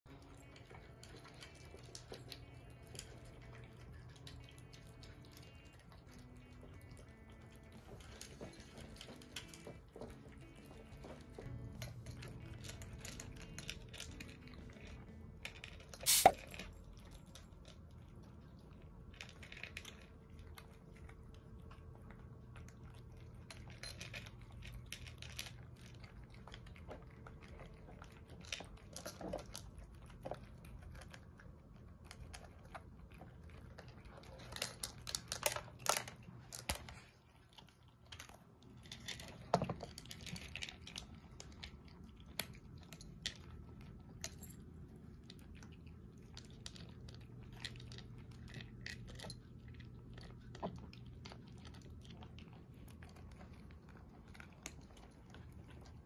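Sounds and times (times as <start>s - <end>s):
cats crunching dry kibble: 0.1s - 56.0s.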